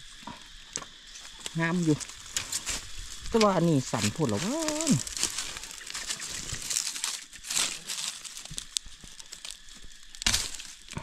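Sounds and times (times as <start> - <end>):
dry leaves rustling: 0.0 - 11.0.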